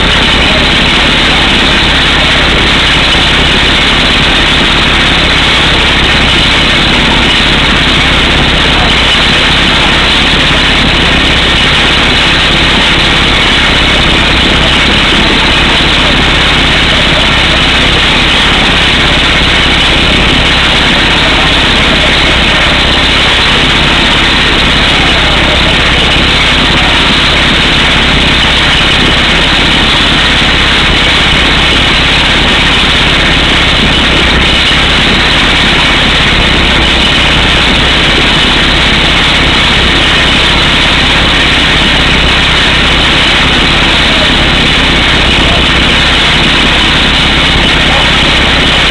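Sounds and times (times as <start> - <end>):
air hammer drilling rock: 0.0 - 48.9
truck engine running: 0.0 - 48.9.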